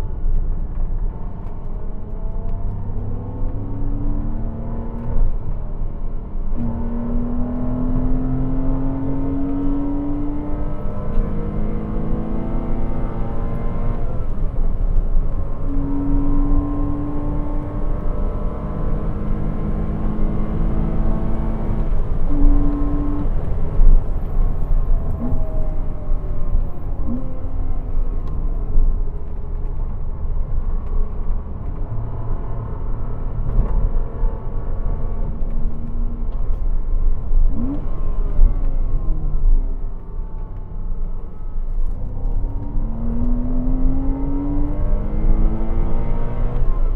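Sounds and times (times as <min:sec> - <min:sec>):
road and wind noise: 0:00.0 - 0:46.9.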